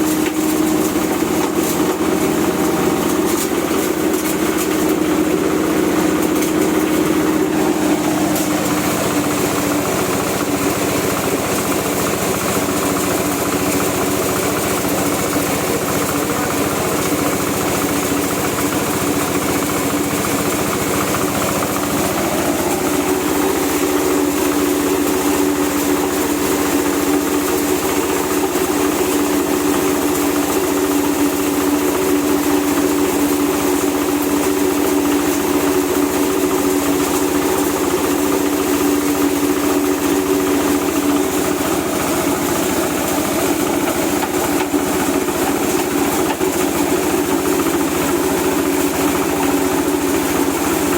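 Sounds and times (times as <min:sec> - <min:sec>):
coffee huller machine hum: 0:00.0 - 0:50.9.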